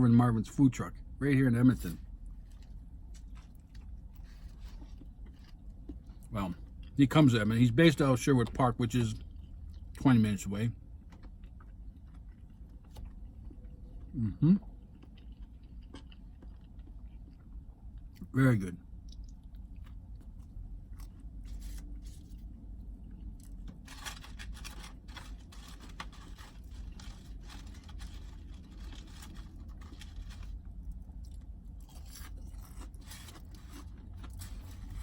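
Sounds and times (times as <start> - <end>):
chewing and crunching: 1.8 - 7.0, 8.3 - 18.3, 19.0 - 35.0.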